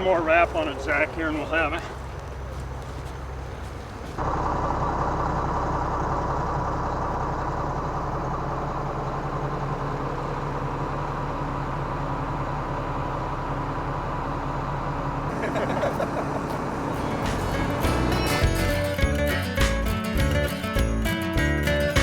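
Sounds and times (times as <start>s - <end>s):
heavy machine engine revving: 4.2s - 22.0s.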